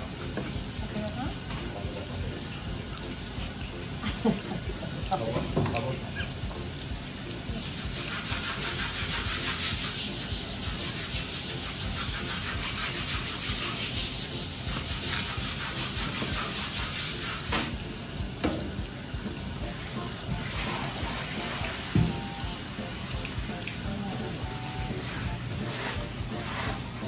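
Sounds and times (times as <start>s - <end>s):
tap running into sink: 0.1s - 9.9s, 11.2s - 25.1s.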